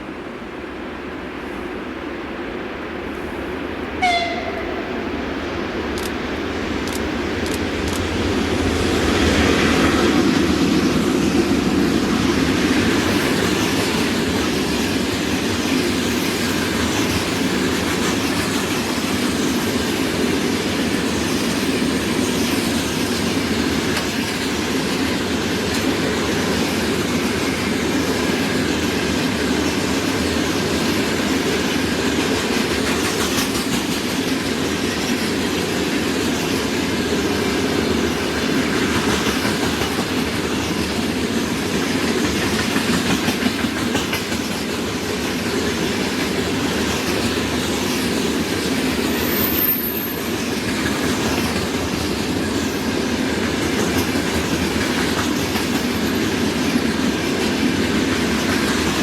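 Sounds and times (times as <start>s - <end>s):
freight train wheels clattering: 6.8s - 59.0s.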